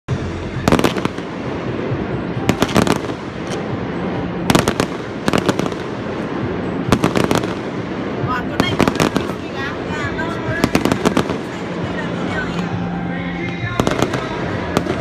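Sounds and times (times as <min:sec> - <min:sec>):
fireworks crackling bangs: 0:00.1 - 0:15.0
steady background noise: 0:00.1 - 0:15.0.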